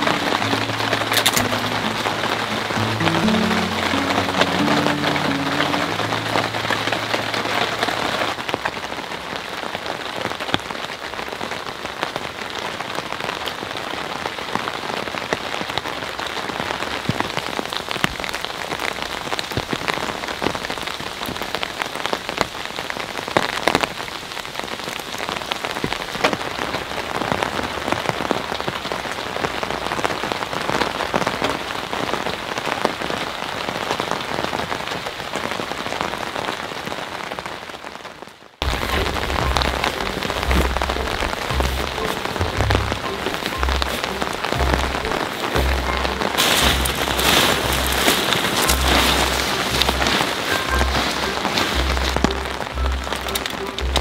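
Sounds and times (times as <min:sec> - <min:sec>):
raindrops ticking on surface: 0:00.0 - 0:54.0
steady rain: 0:00.0 - 0:54.0.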